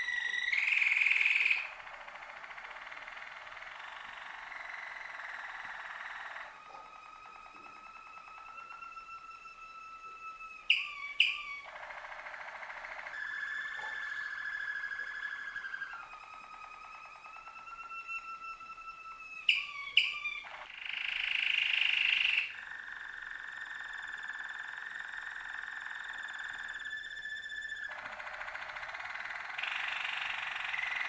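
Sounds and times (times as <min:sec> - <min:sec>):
canary singing rolling trills: 0:00.0 - 0:31.0.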